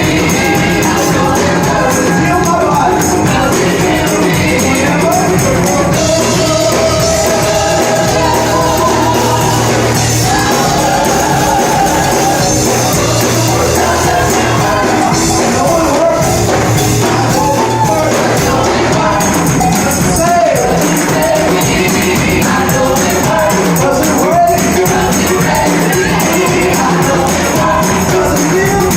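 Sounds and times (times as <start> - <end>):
band playing: 0.0 - 28.9
tambourine: 0.0 - 28.9
voices singing: 0.0 - 28.9.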